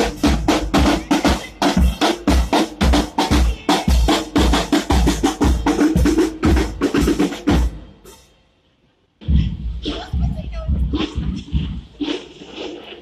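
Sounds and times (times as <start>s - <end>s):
bass drum and snare beat: 0.0s - 7.8s, 9.2s - 13.0s.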